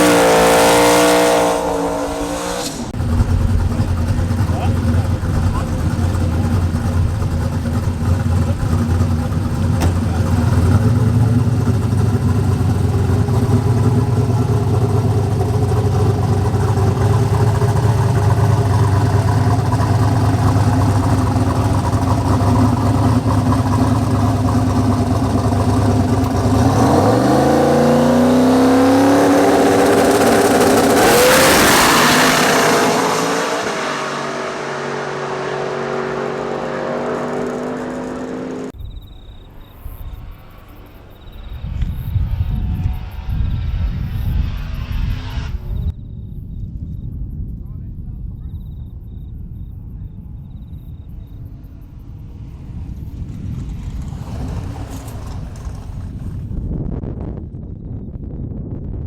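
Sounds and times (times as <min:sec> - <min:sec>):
car engine idling and revving: 0:00.0 - 0:46.0, 0:49.0 - 0:56.8.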